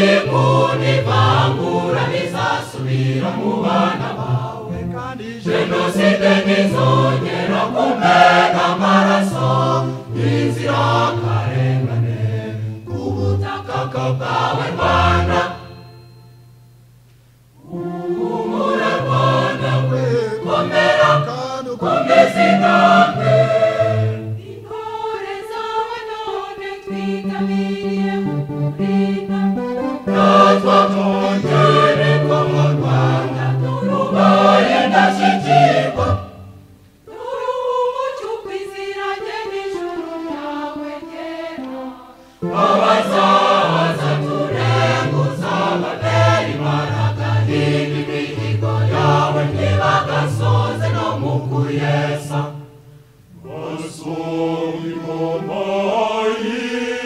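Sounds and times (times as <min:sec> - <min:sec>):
mixed choir singing: 0:00.0 - 0:16.0, 0:17.6 - 0:57.0.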